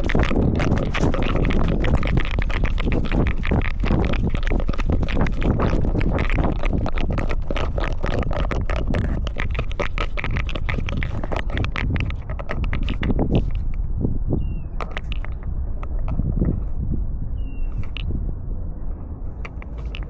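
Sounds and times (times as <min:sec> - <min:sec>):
camera rubbing against fur: 0:00.0 - 0:16.8, 0:17.6 - 0:18.1, 0:19.4 - 0:20.0
steady low rumble: 0:00.0 - 0:20.0.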